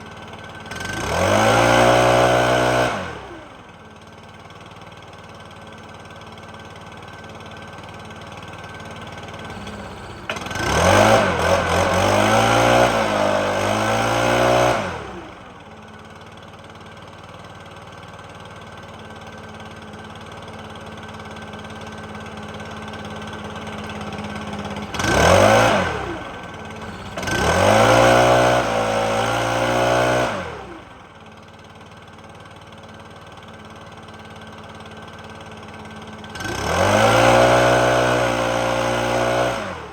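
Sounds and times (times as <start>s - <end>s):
leaf blower engine revving: 0.0s - 5.1s, 6.1s - 16.1s, 18.8s - 31.2s, 33.6s - 39.9s.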